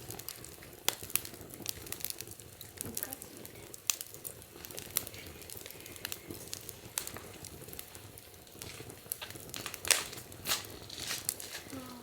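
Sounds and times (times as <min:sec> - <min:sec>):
soft hiss of burning: 0:00.0 - 0:12.0
wood fire crackling and popping: 0:00.0 - 0:12.0.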